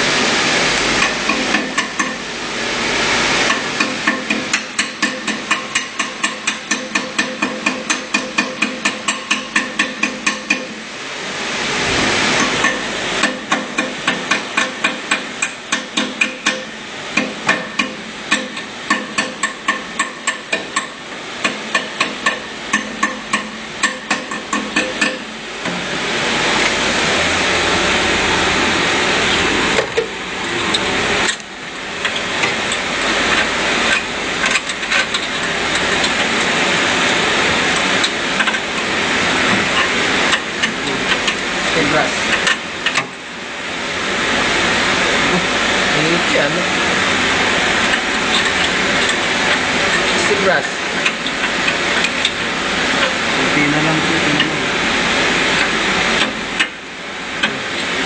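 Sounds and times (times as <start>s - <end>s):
steady rushing noise: 0.0s - 6.8s, 8.8s - 58.0s.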